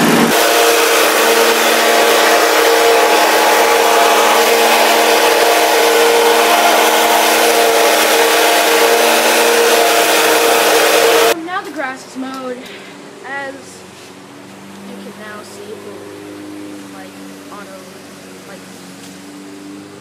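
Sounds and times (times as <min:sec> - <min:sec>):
riding lawn mower engine: 0:00.0 - 0:11.4, 0:12.6 - 0:20.0.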